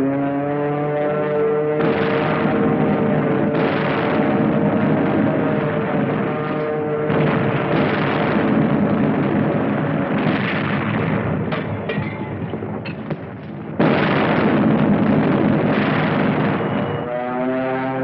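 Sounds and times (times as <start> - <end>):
battle explosions and gunfire: 0.0 - 18.0
loud explosion blast: 1.7 - 17.4
sharp gunfire cracks: 1.8 - 17.1.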